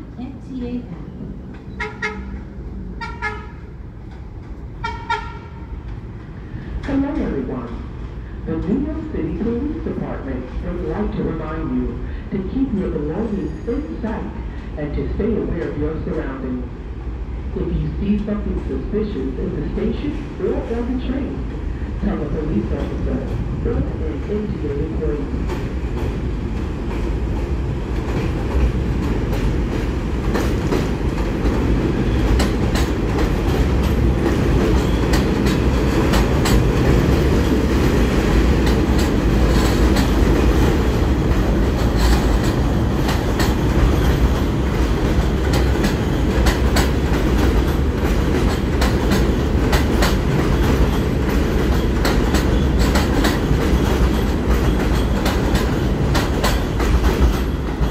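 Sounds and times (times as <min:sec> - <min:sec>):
subway train rumbling: 0:00.0 - 0:57.9.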